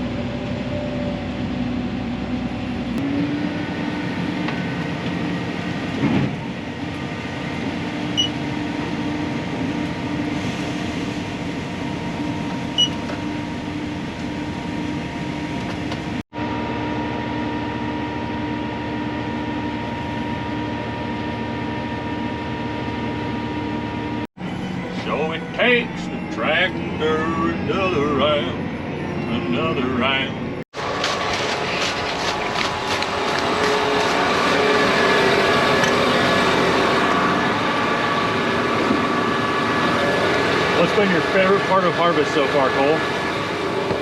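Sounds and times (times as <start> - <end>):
farm machinery engine droning: 0.0 - 44.0.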